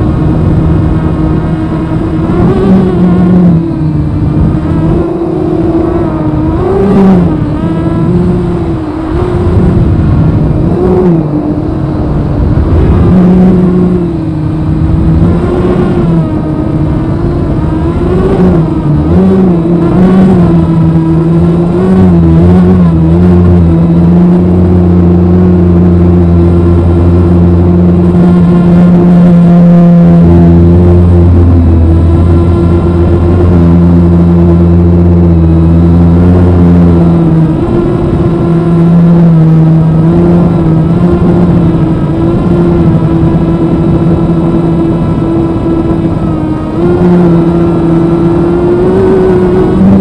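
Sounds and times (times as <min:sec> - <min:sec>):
drone motors whining: 0:00.0 - 0:50.0.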